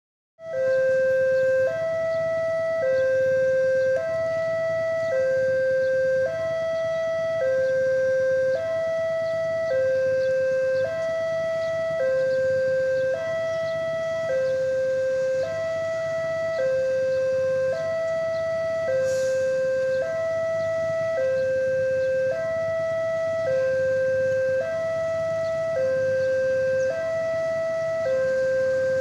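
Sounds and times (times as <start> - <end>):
level crossing two-tone alarm: 0.4 - 29.0.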